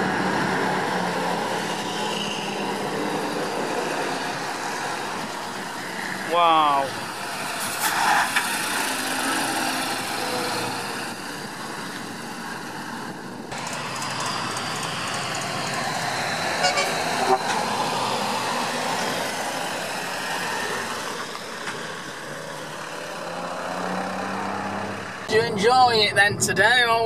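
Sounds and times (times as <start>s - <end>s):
heavy lorries driving past: 0.0s - 25.3s.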